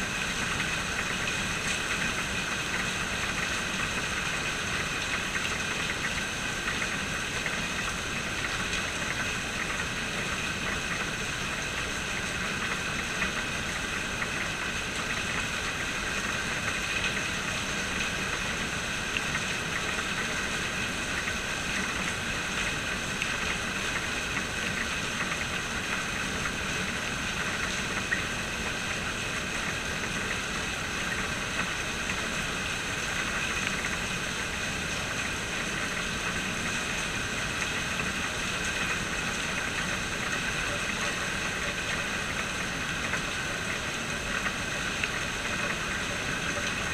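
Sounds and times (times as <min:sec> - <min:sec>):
steady rain hissing: 0:00.0 - 0:46.9.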